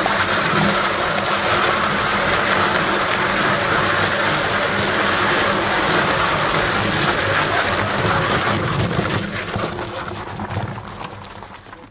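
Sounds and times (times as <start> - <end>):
tyre scraping along ground: 0.0 - 11.9.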